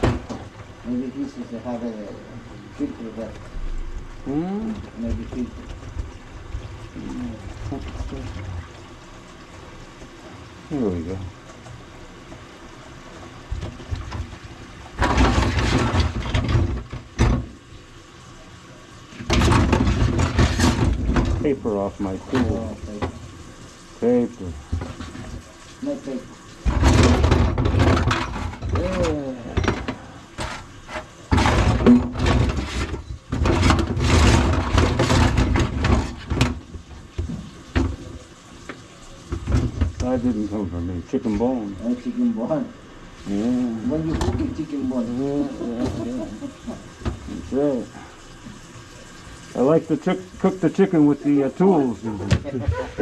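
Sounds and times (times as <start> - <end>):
drain-cleaning machine running: 0.0 - 53.0.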